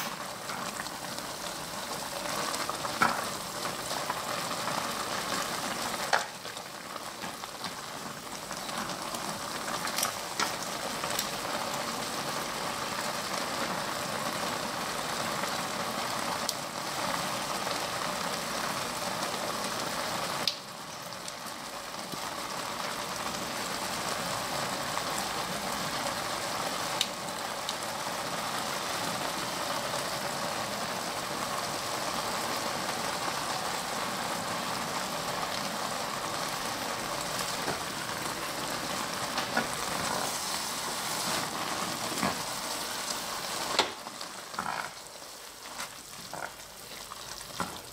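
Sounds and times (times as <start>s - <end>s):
noodles sizzling in a frying pan: 0.0s - 47.9s.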